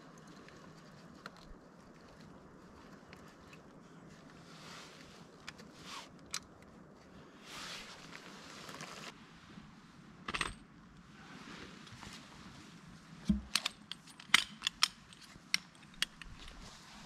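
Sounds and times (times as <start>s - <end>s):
rustle: 0.0s - 17.0s.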